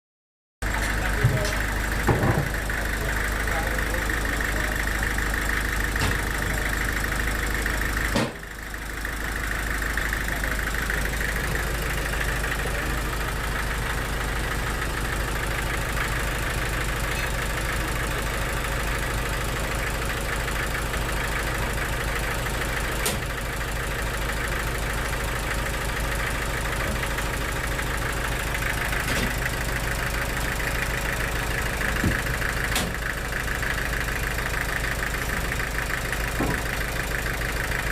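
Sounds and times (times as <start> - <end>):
engine running: 0.6 - 37.9.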